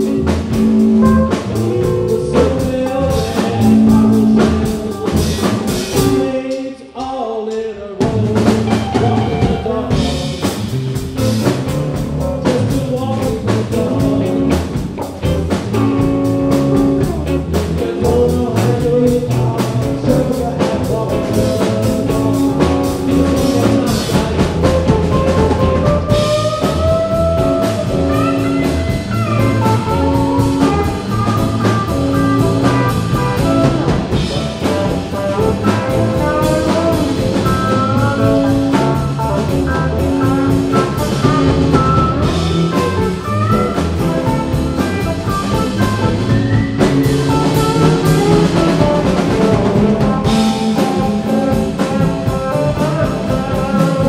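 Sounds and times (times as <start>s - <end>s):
electric guitar lead with bending notes: 0.0s - 6.3s, 8.2s - 54.0s
electric bass: 0.0s - 6.5s, 8.0s - 54.0s
drum kit: 0.0s - 54.0s.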